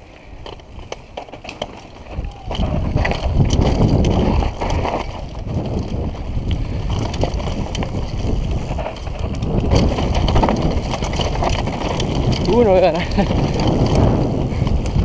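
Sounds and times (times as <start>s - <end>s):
bike clicks and rattles: 0.0s - 15.0s
tyres on loose dirt: 0.0s - 15.0s
wind rushing over microphone: 2.0s - 15.0s.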